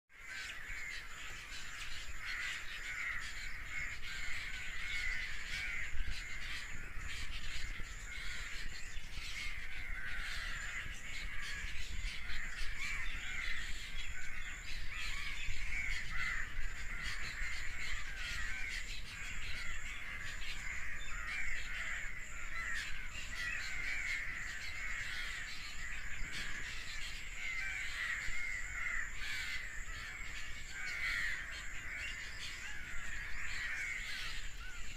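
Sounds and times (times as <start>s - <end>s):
flock of birds chirping: 0.1s - 34.9s.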